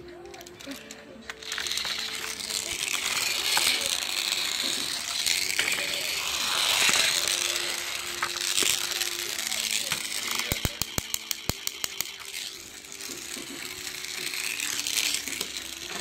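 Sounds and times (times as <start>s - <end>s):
faint background music: 0.0s - 16.0s
small device whirring and rattling: 0.0s - 16.0s.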